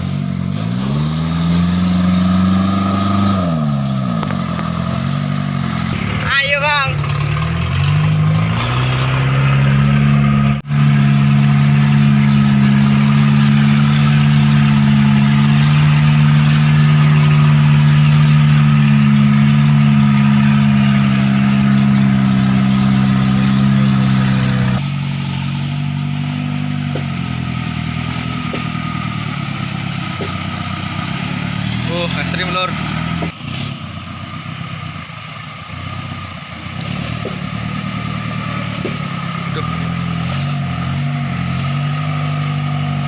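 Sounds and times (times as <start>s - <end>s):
vehicle engine straining at high revs: 0.0s - 43.0s.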